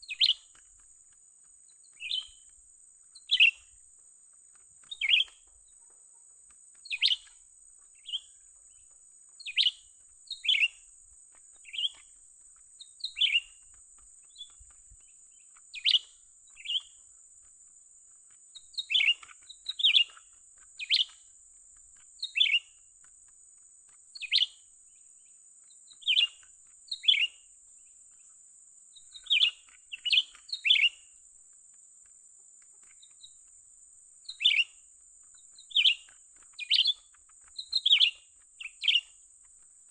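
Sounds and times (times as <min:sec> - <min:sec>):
birds chirping: 0:00.0 - 0:31.2, 0:32.6 - 0:39.9.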